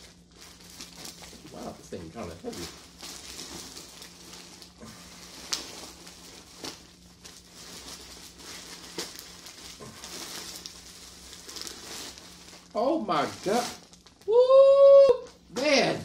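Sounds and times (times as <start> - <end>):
plastic mailer bag crinkling: 0.0 - 14.3.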